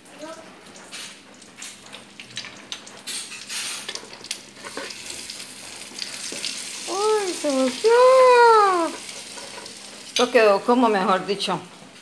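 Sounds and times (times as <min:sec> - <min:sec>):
batter sizzling in oil: 0:00.6 - 0:12.0.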